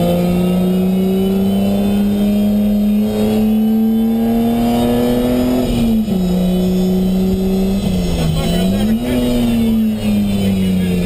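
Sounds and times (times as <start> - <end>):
car engine under load: 0.0 - 11.0.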